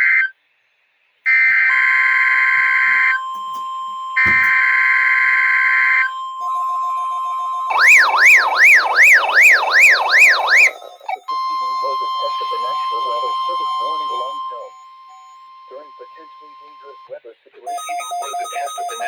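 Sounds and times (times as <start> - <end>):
steady alarm tone: 1.3 - 17.1, 17.7 - 19.0
sweeping siren-like alert tone: 1.3 - 17.1.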